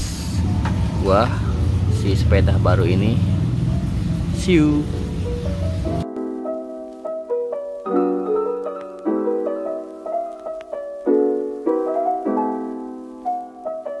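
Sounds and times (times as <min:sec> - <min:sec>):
soft piano music: 0:00.5 - 0:14.0.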